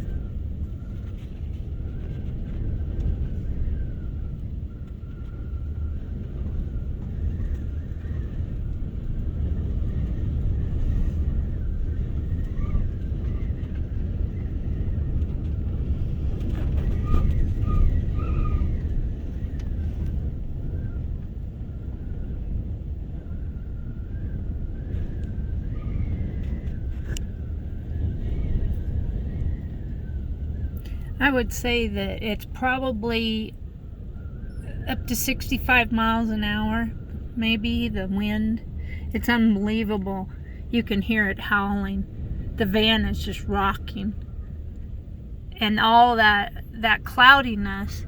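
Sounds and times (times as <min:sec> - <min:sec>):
wind gusting against a van: 0:00.0 - 0:48.0
wind whistling: 0:00.0 - 0:48.0.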